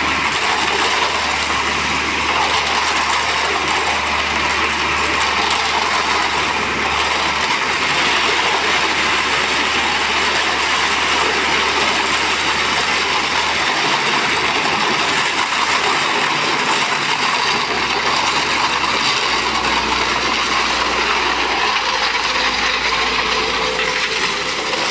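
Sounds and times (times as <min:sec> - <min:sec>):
hydraulic pump running: 0:00.0 - 0:24.9.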